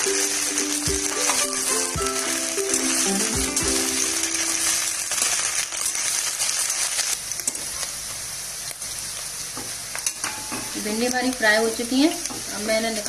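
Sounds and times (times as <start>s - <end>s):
okra sizzling in hot oil: 0.0s - 13.0s.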